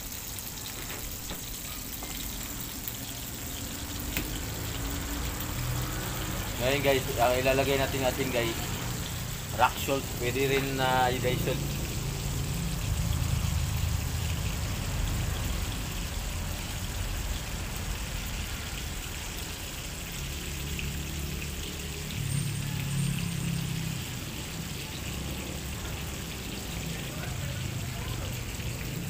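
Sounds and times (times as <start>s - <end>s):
pork frying in oil: 0.0s - 29.0s.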